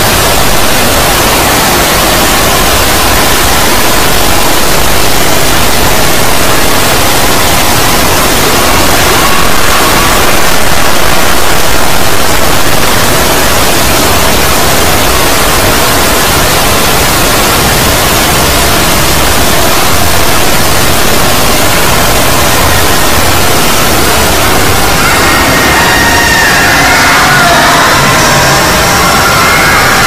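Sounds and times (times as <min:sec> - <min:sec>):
loud distorted static noise: 0:00.0 - 0:30.0.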